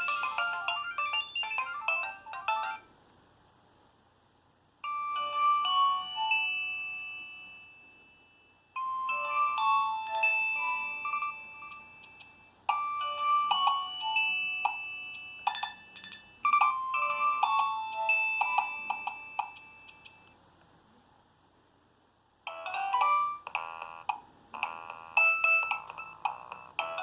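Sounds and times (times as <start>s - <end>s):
polyphonic phone ringtone: 0.0s - 2.9s, 4.8s - 20.2s, 22.5s - 27.0s.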